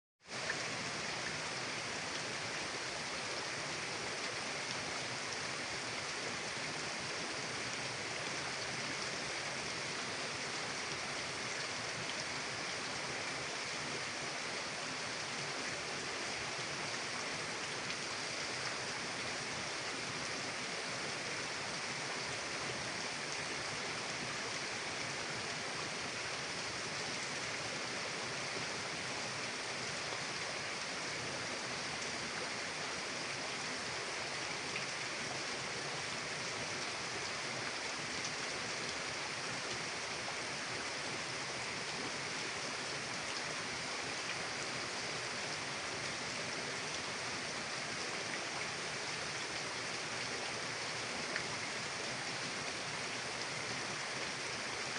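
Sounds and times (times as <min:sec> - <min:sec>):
river water rushing: 0:00.2 - 0:54.9.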